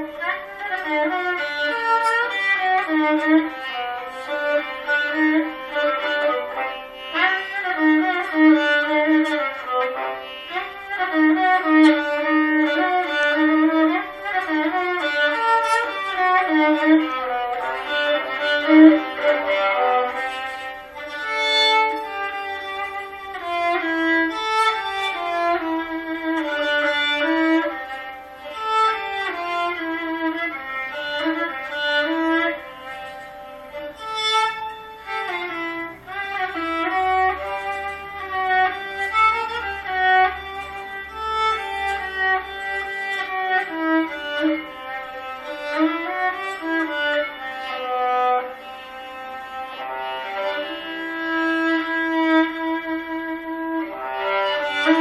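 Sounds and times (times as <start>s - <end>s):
bowed lyra melody: 0.0s - 55.0s.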